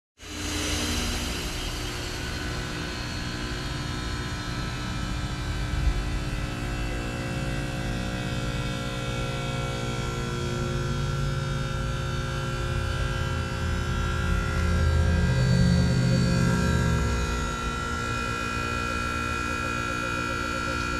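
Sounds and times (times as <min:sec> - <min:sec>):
heat pump compressor hum: 0:00.3 - 0:20.9.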